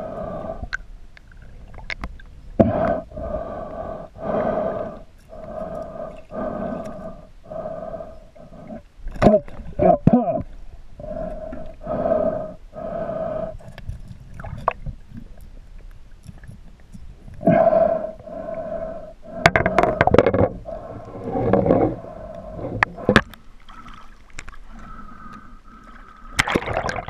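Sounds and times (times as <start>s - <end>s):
pitched droning hum underwater: 0.0s - 27.0s.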